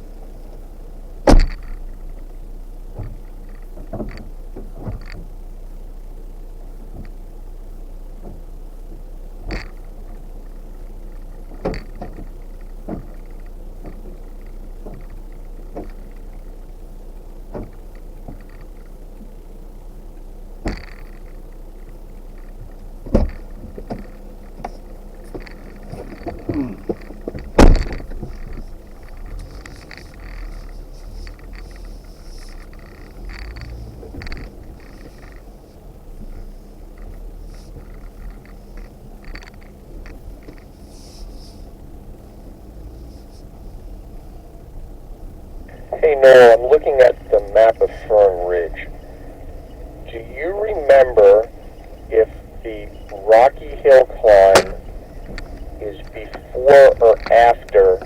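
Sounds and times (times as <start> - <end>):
vehicle engine low rumble: 0.0 - 58.0.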